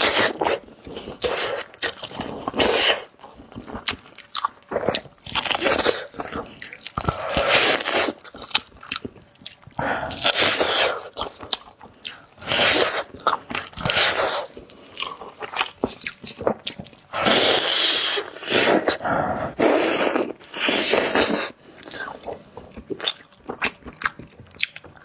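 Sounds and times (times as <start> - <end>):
chewing and biting meat: 0.0 - 19.0, 19.6 - 25.0.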